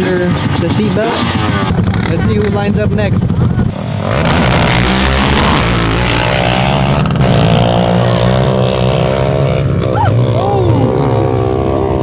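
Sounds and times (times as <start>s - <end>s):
engine revving: 0.0s - 3.0s, 3.6s - 12.0s
off-road vehicle engines: 0.0s - 12.0s.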